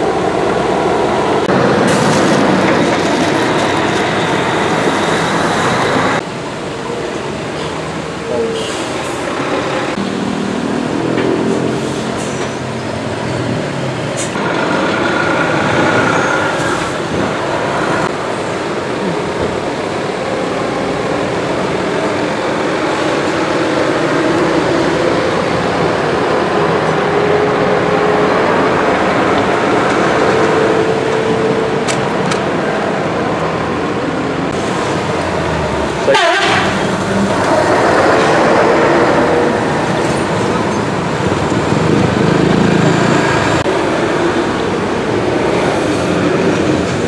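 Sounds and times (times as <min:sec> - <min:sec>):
heavy diesel trucks passing: 0:00.0 - 0:47.0
road traffic: 0:00.0 - 0:47.0.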